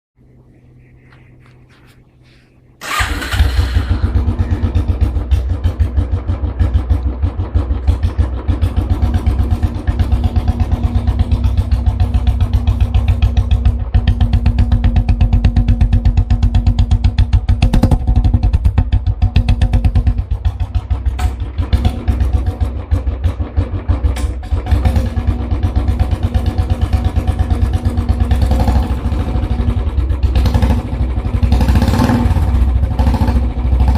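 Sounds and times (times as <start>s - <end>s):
motorcycle engine starting and idling: 2.8s - 33.9s.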